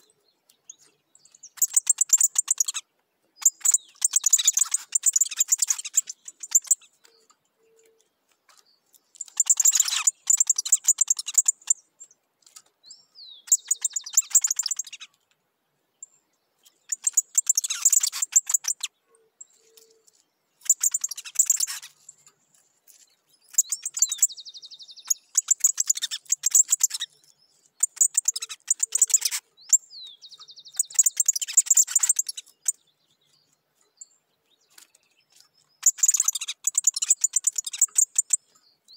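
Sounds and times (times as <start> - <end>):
bird whistled slur and trill: 0.0 - 2.8, 3.4 - 8.0, 9.2 - 11.9, 12.9 - 15.2, 16.6 - 22.2, 23.4 - 38.9
bird chattering song: 0.0 - 15.3, 15.9 - 38.9.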